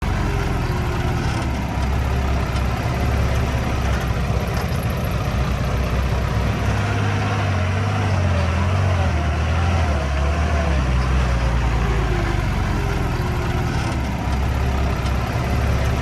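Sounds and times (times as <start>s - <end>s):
earthmoving machine engine running: 0.0s - 16.0s.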